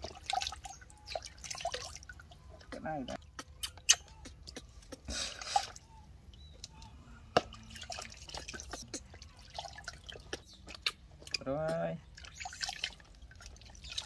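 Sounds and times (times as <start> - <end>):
water splashing: 0.0 - 6.0, 7.4 - 11.4, 12.1 - 14.0
water dripping in basin: 0.0 - 14.0.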